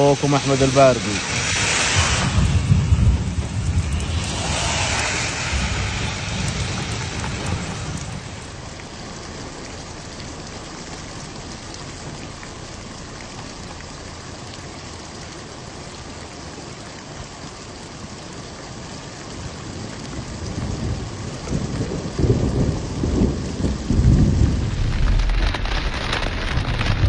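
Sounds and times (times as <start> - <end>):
thunder rumble: 0.0 - 15.2, 19.8 - 27.0
steady rain falling: 0.0 - 27.0.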